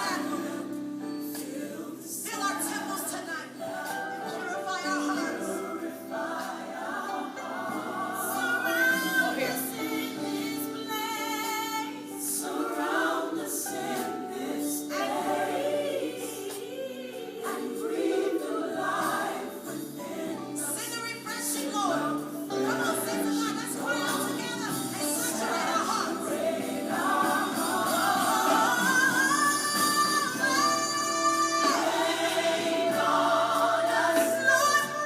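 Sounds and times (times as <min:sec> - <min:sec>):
choir singing gospel song: 0:00.0 - 0:35.0
musical accompaniment: 0:00.0 - 0:35.0.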